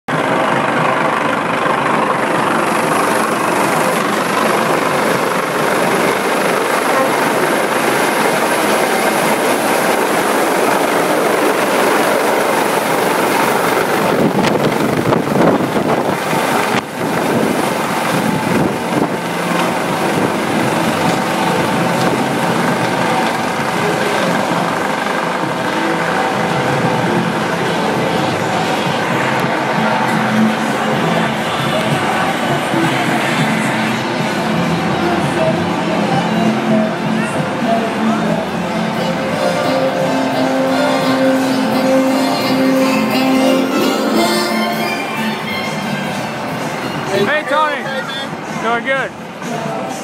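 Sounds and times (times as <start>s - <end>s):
loud engine drone: 0.1s - 50.0s.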